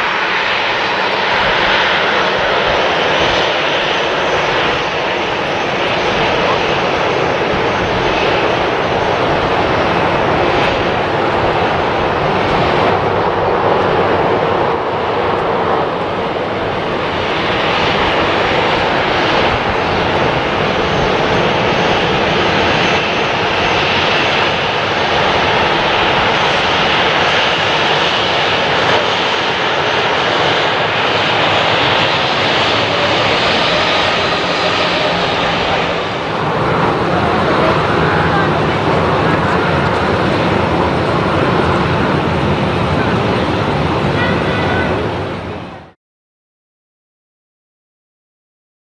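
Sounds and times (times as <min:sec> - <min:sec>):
airliner engines passing: 0:00.0 - 0:46.0.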